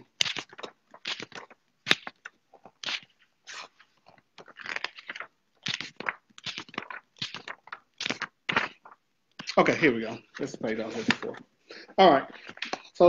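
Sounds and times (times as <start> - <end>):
book pages flipping: 0.0 - 13.0.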